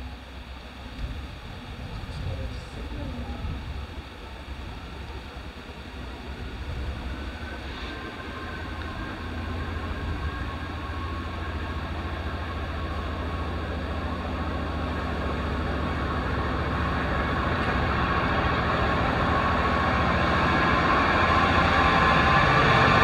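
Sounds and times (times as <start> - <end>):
diesel locomotive engine drone: 0.0 - 23.0
steady high whine: 0.0 - 23.0.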